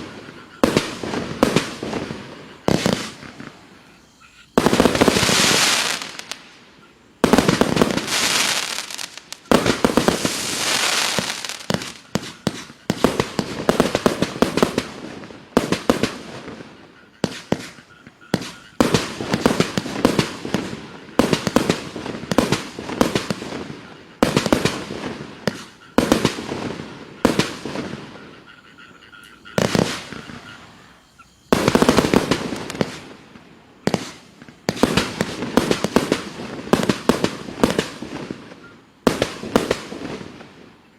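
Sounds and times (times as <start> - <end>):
firework launch shots and bursts: 0.0 - 3.7, 4.5 - 6.4, 7.2 - 28.3, 29.6 - 30.7, 31.5 - 40.5.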